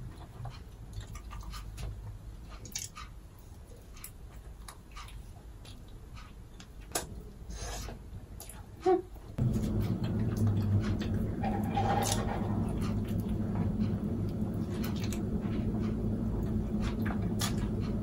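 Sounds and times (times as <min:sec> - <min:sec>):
chewing pizza: 0:00.0 - 0:18.0.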